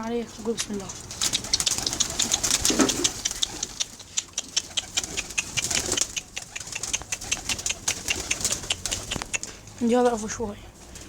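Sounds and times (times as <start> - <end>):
pigeon wings flapping: 0.1 - 11.0.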